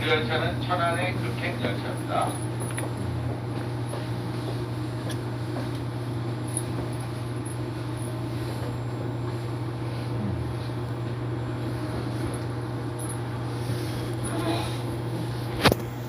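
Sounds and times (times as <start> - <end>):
rumble of wheels and motors: 0.0 - 16.0
train car hum: 0.0 - 16.0.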